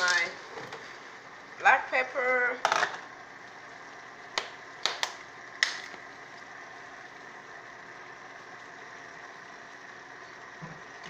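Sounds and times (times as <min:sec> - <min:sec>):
kitchen hum: 0:00.0 - 0:11.0
stovetop cooking: 0:00.0 - 0:11.0.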